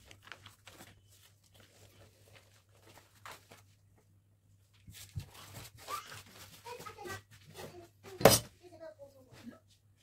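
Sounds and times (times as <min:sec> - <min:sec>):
shuffling of objects: 0:00.0 - 0:10.0.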